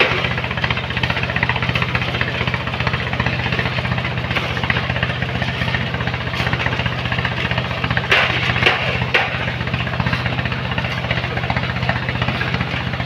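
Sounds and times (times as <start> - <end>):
machine engine running: 0.0 - 13.0.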